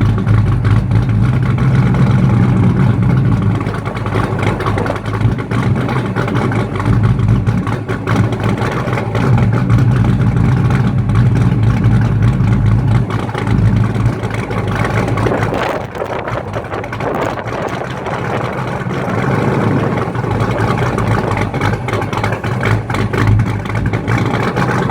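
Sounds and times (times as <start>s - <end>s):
car engine idling loudly: 0.0s - 24.9s.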